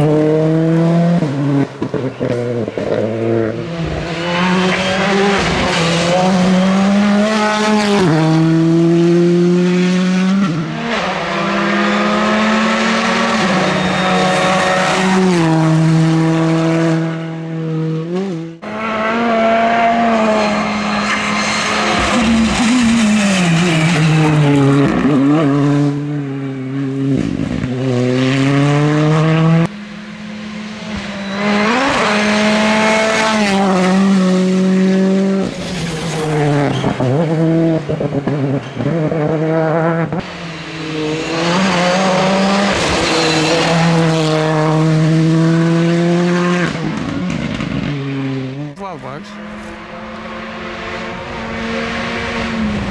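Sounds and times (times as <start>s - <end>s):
rally car engine revving: 0.0s - 52.9s.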